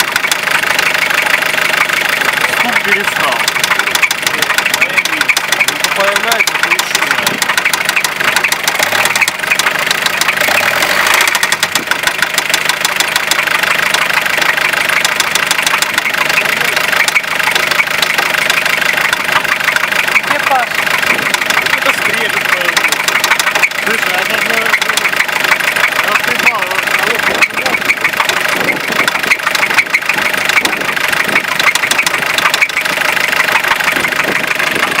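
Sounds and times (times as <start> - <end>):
diesel engine running: 0.0 - 35.0
fast regular engine knocking: 0.0 - 35.0.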